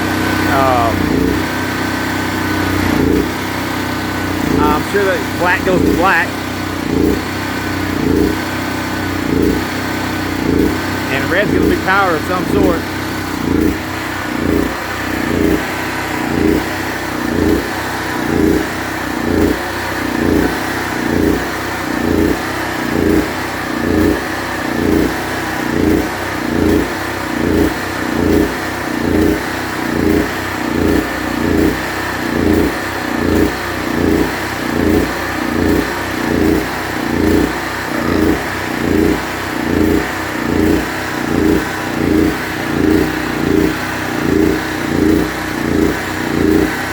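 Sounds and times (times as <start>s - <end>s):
generator engine running: 0.0s - 46.9s.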